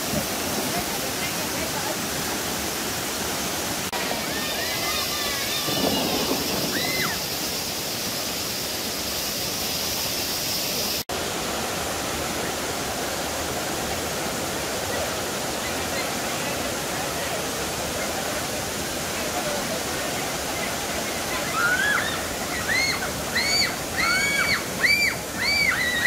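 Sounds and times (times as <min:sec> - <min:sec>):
river whitewater rushing over rock: 0:00.0 - 0:26.0.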